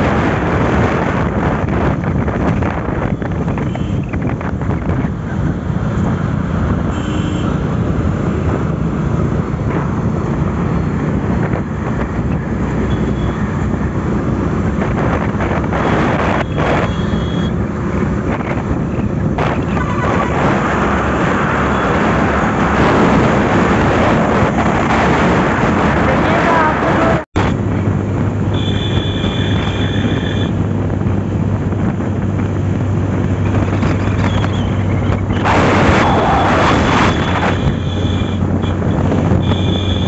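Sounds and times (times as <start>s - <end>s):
motorcycle engine hum: 0.0s - 40.0s
road noise: 0.0s - 40.0s
wind rushing over microphone: 0.0s - 40.0s.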